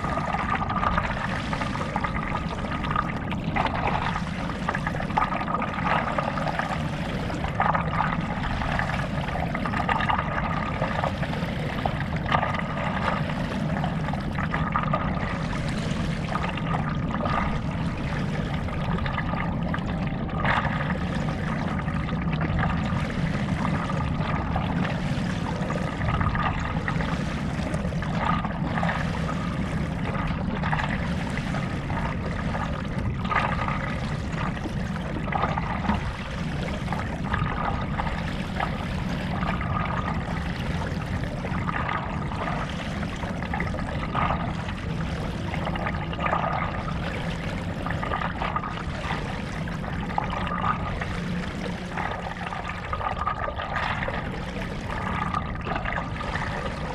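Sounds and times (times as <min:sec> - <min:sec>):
water noise around board: 0:00.0 - 0:56.9.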